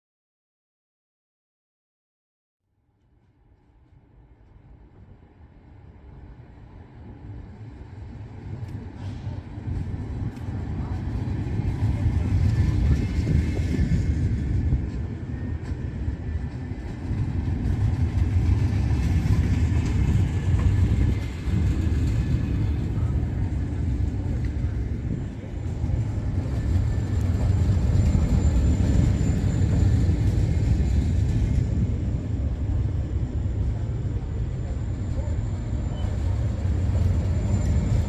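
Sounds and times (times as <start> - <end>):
train rumbling: 3.6 - 38.0.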